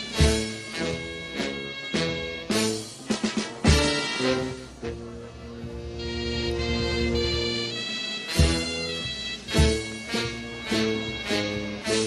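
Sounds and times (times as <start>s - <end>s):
brass band chords: 0.0s - 12.0s.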